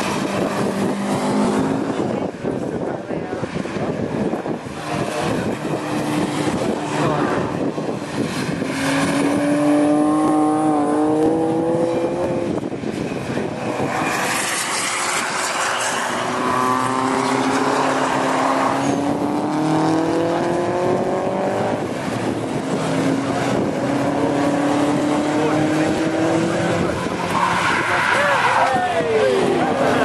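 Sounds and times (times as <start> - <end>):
rally car engines accelerating: 0.0 - 30.0.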